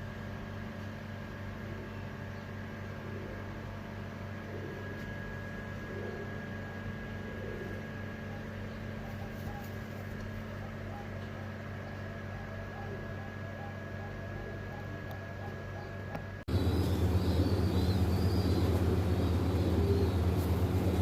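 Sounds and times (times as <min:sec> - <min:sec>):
mechanical hum with high whine: 0:00.0 - 0:21.0.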